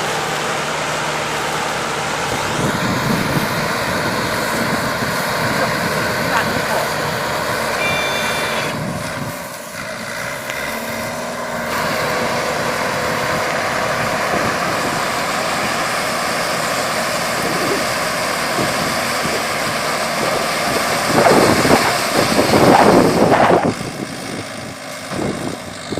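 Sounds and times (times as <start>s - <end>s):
hay baler droning: 0.0s - 25.9s.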